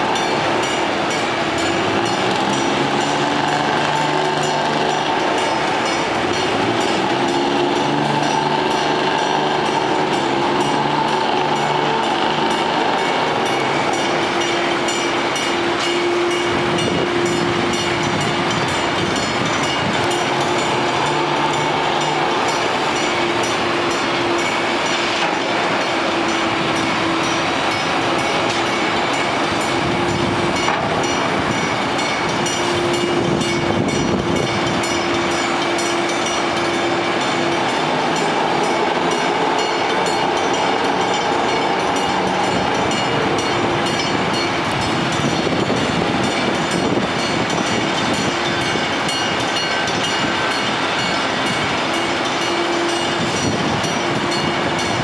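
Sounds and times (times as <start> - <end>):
bridge machinery rumbling: 0.0 - 55.0.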